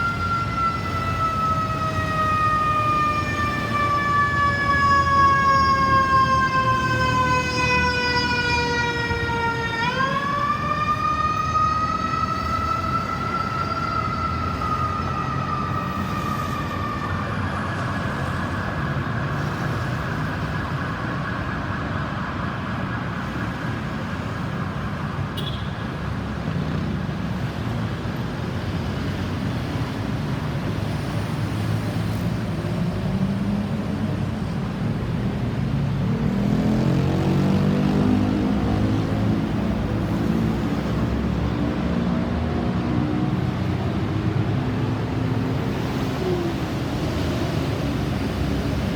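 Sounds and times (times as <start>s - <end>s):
ambulance siren wailing: 0.0s - 26.0s, 29.8s - 48.9s
traffic noise: 0.0s - 48.9s.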